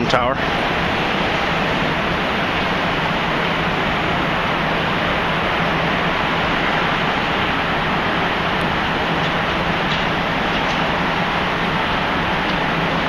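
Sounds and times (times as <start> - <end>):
city street traffic roar: 0.0 - 13.0.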